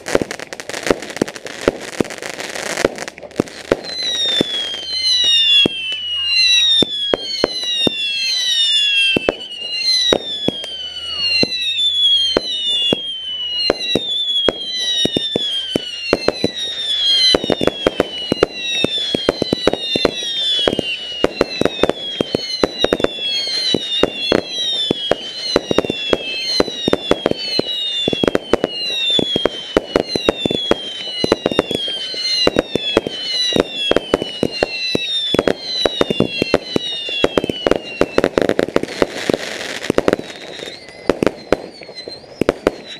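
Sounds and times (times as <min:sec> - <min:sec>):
fireworks bangs and cracks: 0:00.0 - 0:42.9
fireworks whistling: 0:00.0 - 0:42.9.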